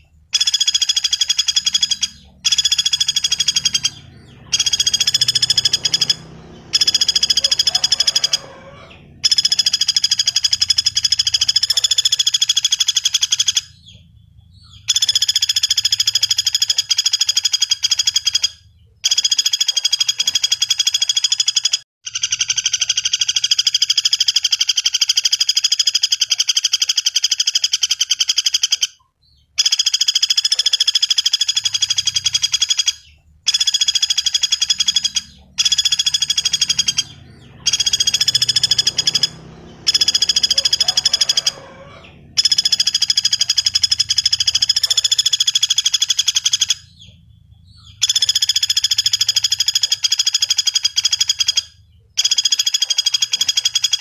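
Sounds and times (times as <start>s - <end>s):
woodpecker rattling trill calls: 0.0s - 54.0s.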